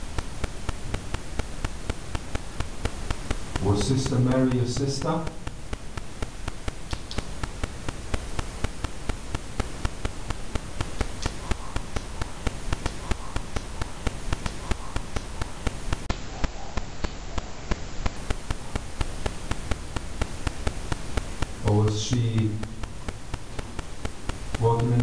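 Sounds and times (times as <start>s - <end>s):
regular clicks: 0.0s - 25.0s
static hiss: 0.0s - 25.0s.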